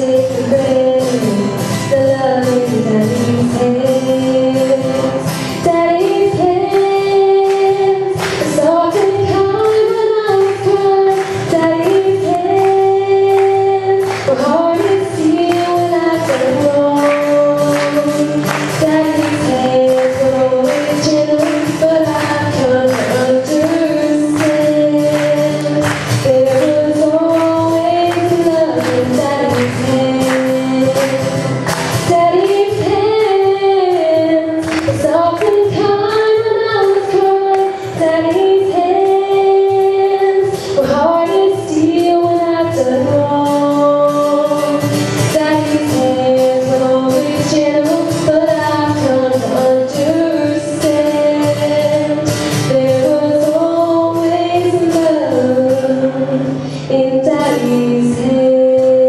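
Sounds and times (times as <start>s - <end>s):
musical accompaniment: 0.0s - 59.0s
woman singing slow song: 0.0s - 59.0s.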